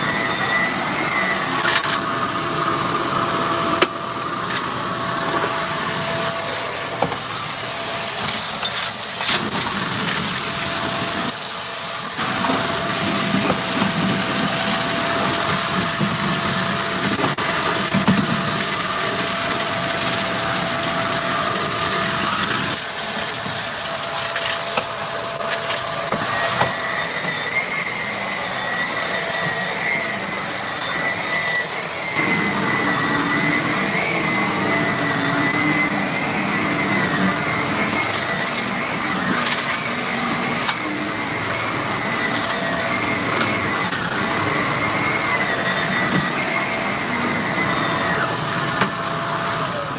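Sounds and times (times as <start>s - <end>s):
vacuum cleaner motor whine: 0.0s - 49.9s.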